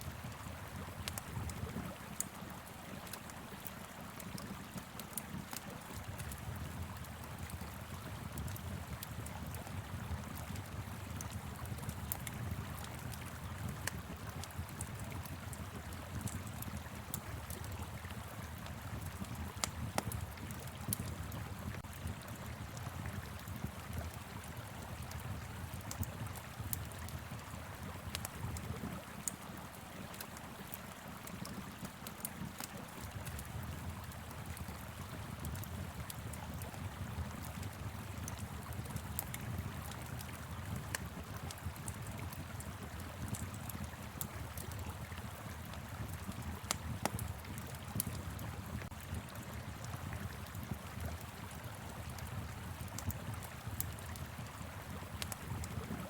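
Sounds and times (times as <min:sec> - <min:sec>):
wood fire crackling and popping: 0:00.2 - 0:56.0.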